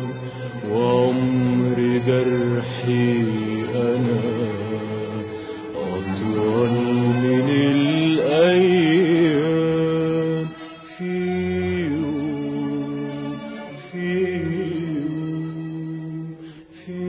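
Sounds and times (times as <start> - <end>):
man singing ornamented notes: 0.0 - 17.0
musical accompaniment: 0.0 - 17.0.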